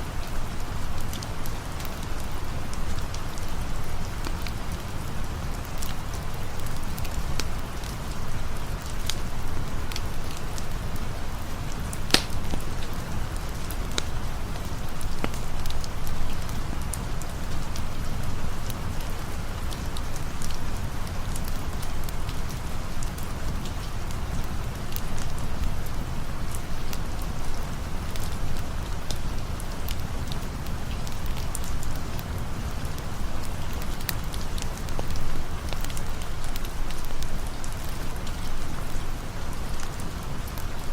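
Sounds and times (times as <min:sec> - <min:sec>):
steady rain: 0:00.0 - 0:40.9
campfire crackling and popping: 0:00.2 - 0:40.9.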